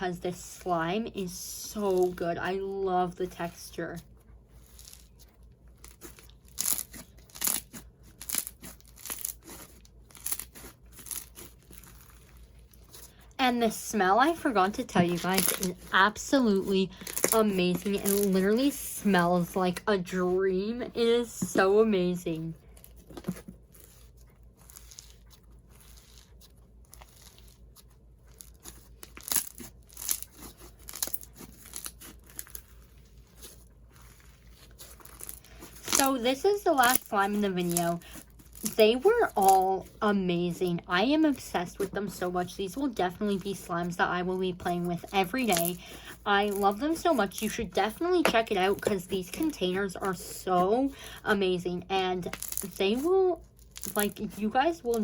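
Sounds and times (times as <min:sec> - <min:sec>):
slime crunchy squishes: 0:00.1 - 0:55.0.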